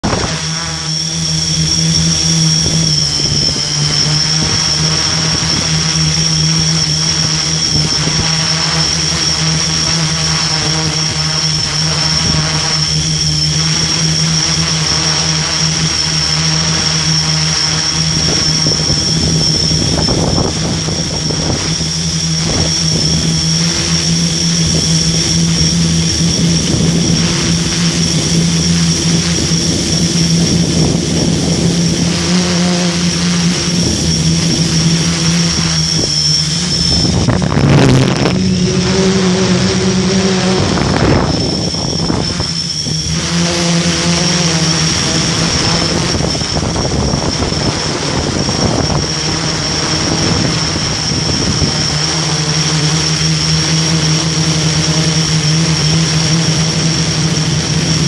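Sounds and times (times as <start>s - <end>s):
drone motors and propellers buzzing: 0.0s - 58.0s.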